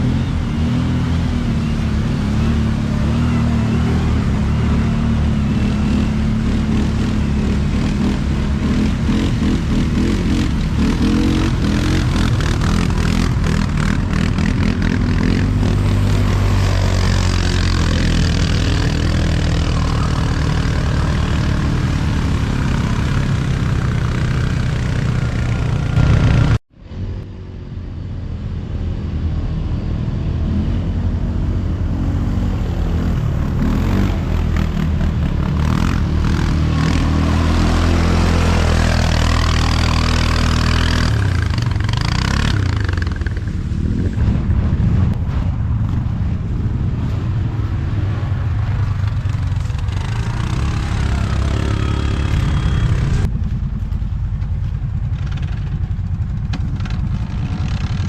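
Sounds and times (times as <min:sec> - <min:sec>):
quad bike engine running hard: 0:00.0 - 0:27.7, 0:28.8 - 0:45.1, 0:47.0 - 0:58.0.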